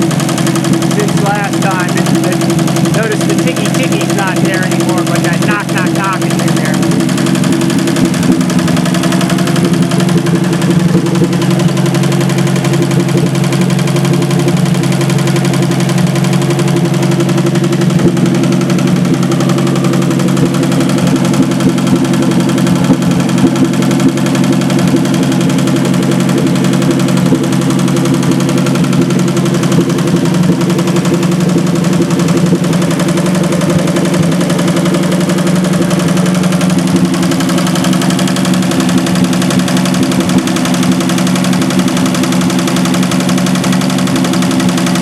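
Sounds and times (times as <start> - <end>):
car engine running steadily: 0.0 - 45.0.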